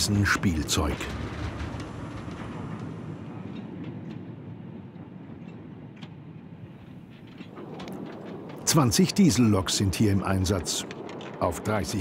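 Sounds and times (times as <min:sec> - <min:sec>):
train and machinery rumbling: 0:00.0 - 0:12.0.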